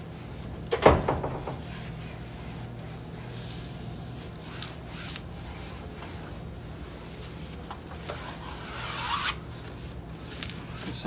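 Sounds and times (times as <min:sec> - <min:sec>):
cloth rubbing on vinyl: 0:00.0 - 0:00.7, 0:01.6 - 0:11.0
steady low hum: 0:00.0 - 0:11.0.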